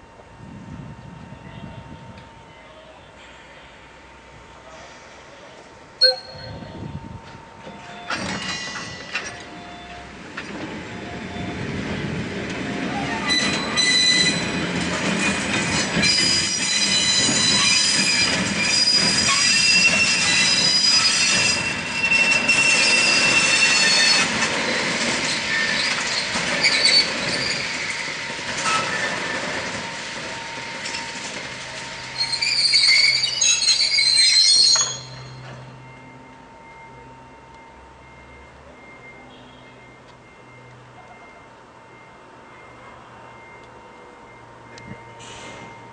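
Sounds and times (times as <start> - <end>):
train wheels squealing on rails: 6.0 - 7.0, 7.6 - 45.9.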